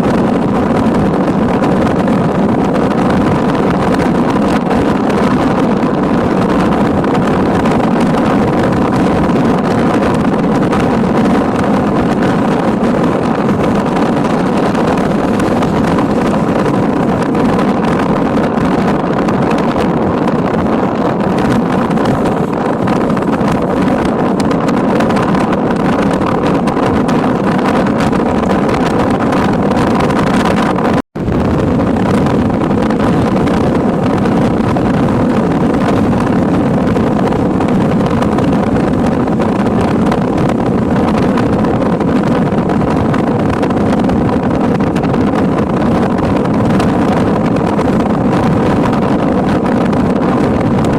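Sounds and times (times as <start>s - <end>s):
car road and engine noise: 0.0s - 50.9s
wind rushing over microphone: 0.0s - 50.9s.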